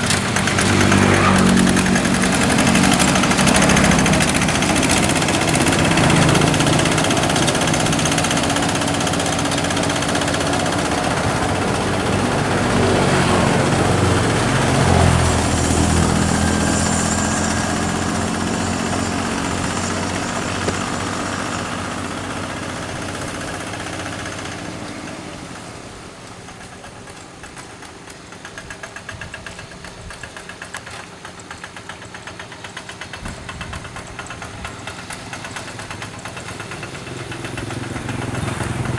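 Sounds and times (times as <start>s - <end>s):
diesel engine knocking: 0.0s - 38.9s.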